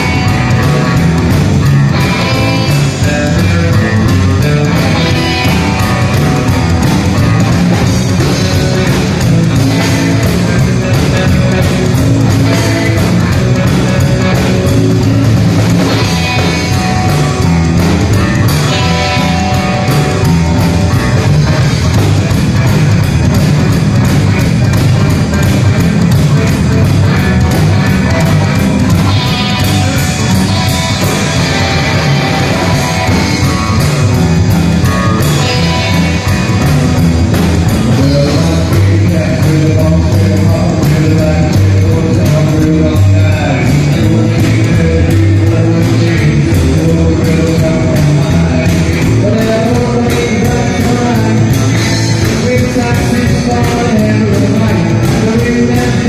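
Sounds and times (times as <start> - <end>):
double bass: 0.0 - 56.0
drum kit beat: 0.0 - 56.0
electric guitars: 0.0 - 56.0
man singing: 1.8 - 22.7, 24.7 - 56.0.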